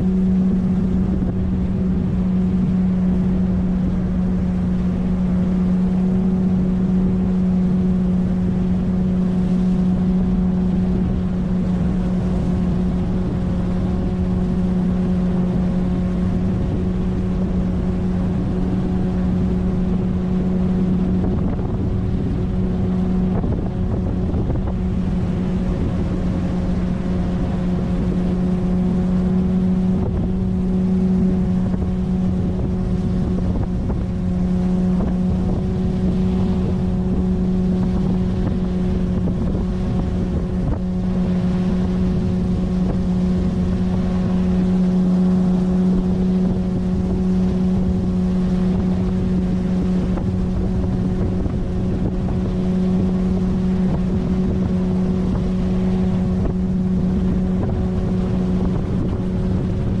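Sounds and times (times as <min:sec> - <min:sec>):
outboard motor running steadily: 0:00.0 - 1:00.0.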